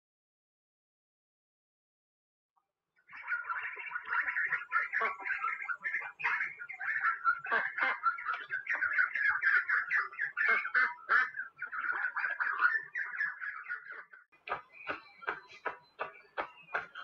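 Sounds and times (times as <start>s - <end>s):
waterfowl calling: 3.0s - 17.0s.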